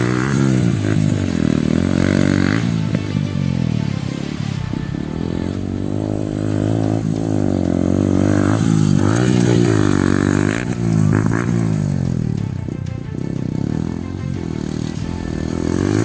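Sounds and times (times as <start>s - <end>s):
motorcycle engine running under load: 0.0s - 16.0s.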